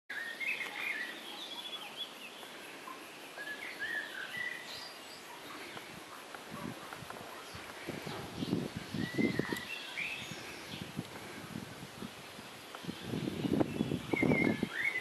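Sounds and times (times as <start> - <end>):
birds chirping: 0.1 - 15.0
faint steady hiss: 0.1 - 15.0.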